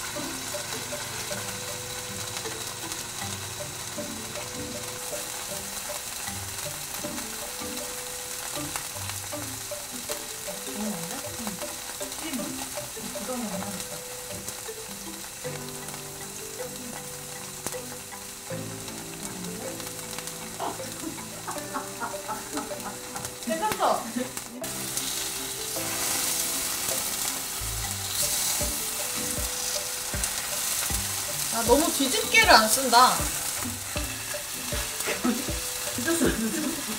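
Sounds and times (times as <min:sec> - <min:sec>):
tofu sizzling in oil: 0:00.0 - 0:36.9.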